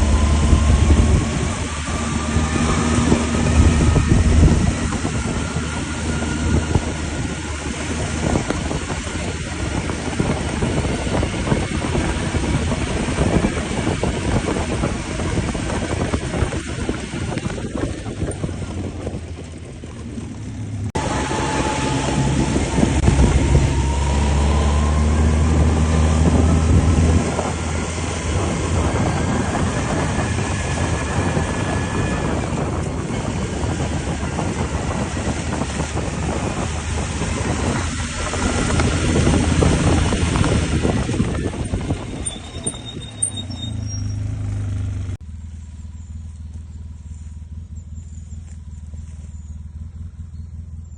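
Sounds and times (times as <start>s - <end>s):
quad bike engine running: 0.0s - 50.9s.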